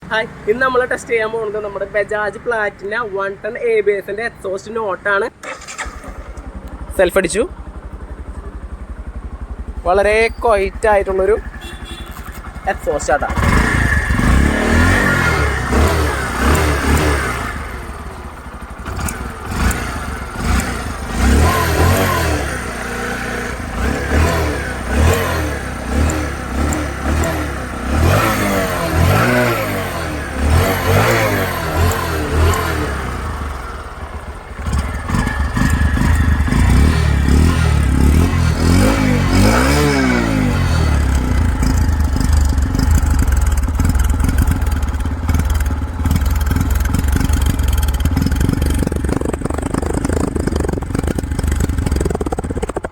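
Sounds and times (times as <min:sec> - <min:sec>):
motorcycle engine revving: 0:05.3 - 0:52.9.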